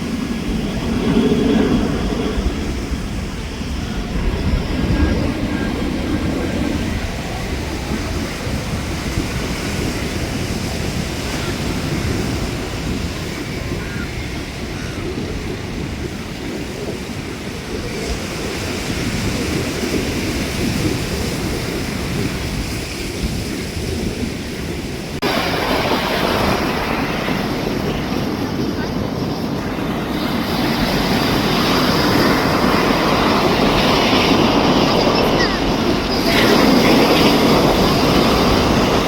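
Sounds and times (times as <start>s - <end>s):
surf washing on beach: 0.0s - 39.0s
wind buffeting microphone: 0.0s - 39.0s.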